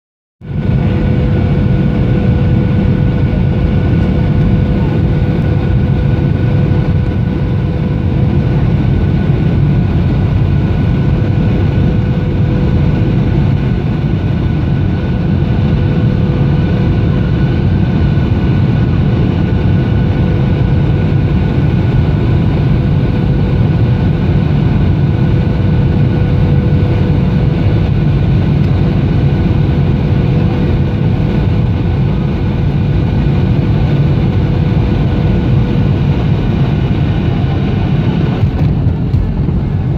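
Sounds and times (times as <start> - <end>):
airliner engines rumbling: 0.4 - 39.9.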